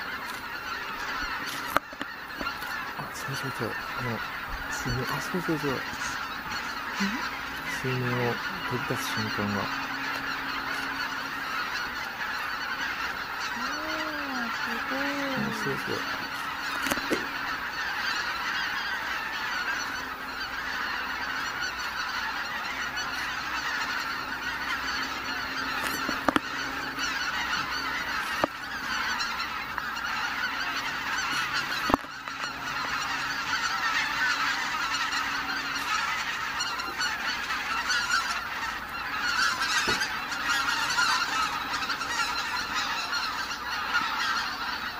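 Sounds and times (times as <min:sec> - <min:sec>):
geese honking: 0:00.0 - 0:44.9.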